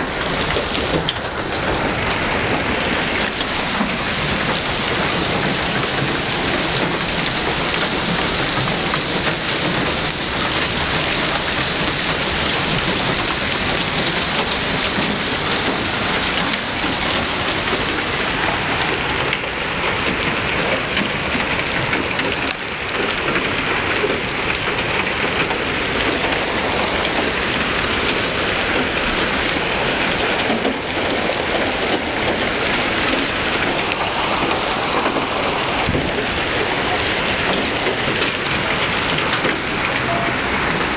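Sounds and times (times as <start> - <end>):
hail and rain pelting cars: 0.0 - 40.9.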